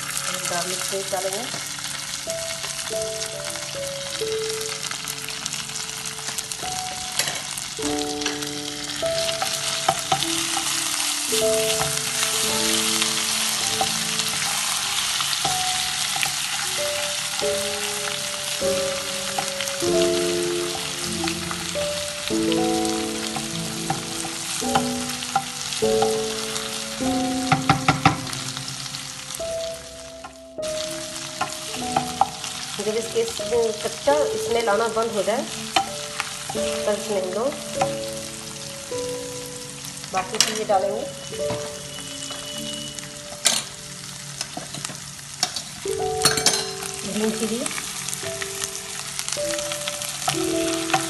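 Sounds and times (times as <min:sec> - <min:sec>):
paste sizzling in hot oil: 0:00.0 - 0:51.0
soft background music: 0:00.0 - 0:51.0.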